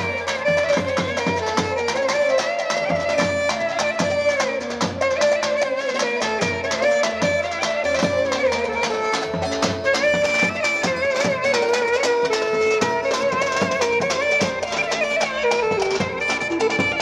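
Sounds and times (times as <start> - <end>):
drum beat: 0.0 - 17.0
ornamented lead melody: 0.0 - 17.0.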